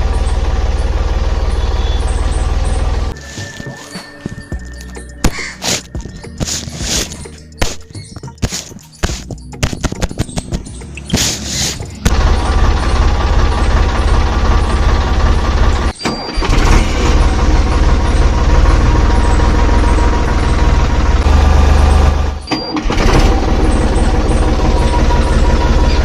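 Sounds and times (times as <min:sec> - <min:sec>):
small tractor engine running: 0:00.0 - 0:26.0.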